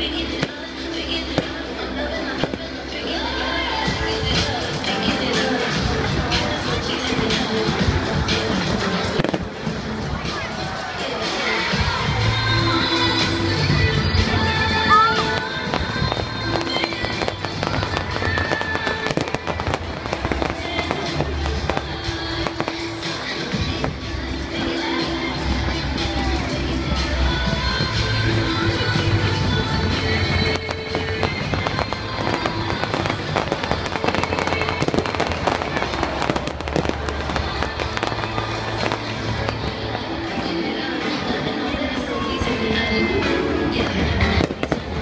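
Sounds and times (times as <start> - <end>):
music playing: 0.0 - 45.0
fireworks popping and crackling: 0.2 - 2.8, 3.8 - 12.4, 13.2 - 28.1, 28.8 - 41.4, 43.7 - 45.0.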